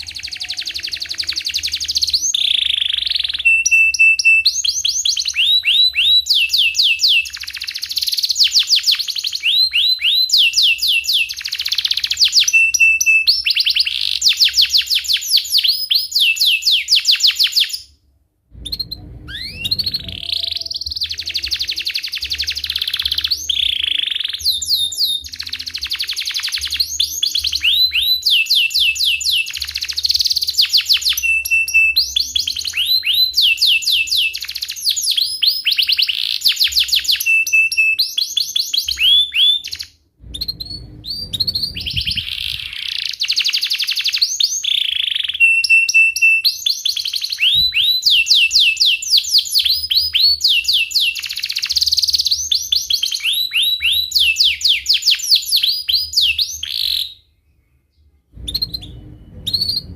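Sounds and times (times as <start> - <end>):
canary singing trills and chirps: 0.0 - 17.9, 18.6 - 57.4.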